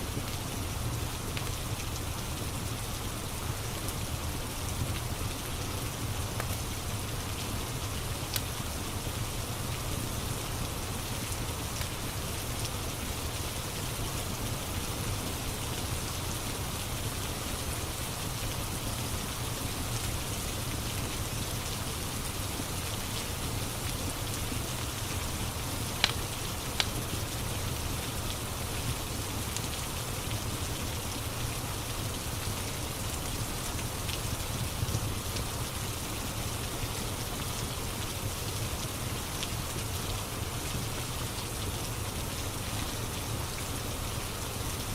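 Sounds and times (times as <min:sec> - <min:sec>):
steady rain: 0:00.0 - 0:44.9
wood fire crackles: 0:00.0 - 0:44.9.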